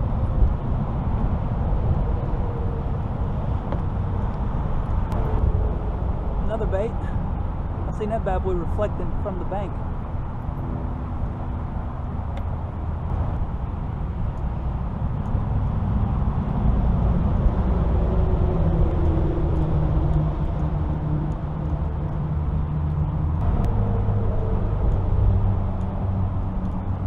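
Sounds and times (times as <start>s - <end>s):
traffic engine hum: 0.0s - 27.0s.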